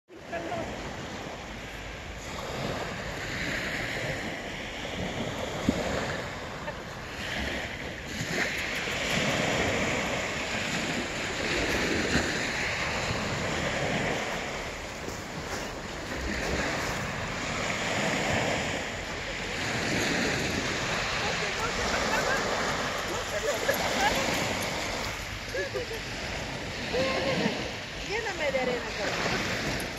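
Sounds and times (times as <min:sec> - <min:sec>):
waves washing up pebble beach: 0:00.2 - 0:29.9.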